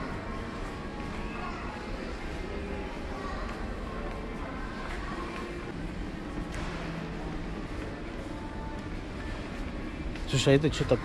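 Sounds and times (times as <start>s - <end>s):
soft background music: 0.0s - 11.0s
store hubbub: 0.0s - 11.0s.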